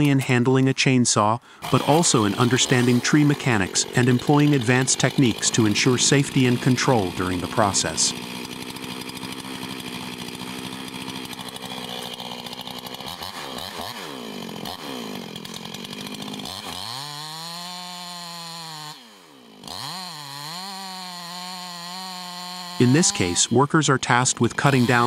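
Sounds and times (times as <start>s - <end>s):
chainsaw engine revving: 1.4s - 25.0s.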